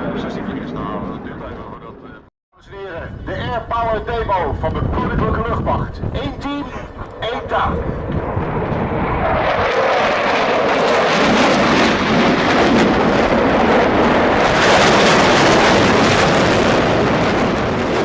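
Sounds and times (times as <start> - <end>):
aircraft engine rushing: 0.0 - 2.2, 3.2 - 18.0.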